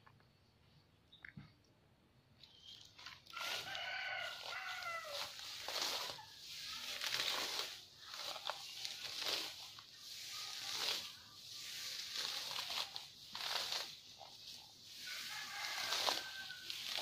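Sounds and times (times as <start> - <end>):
grass being pulled up: 2.4 - 17.0.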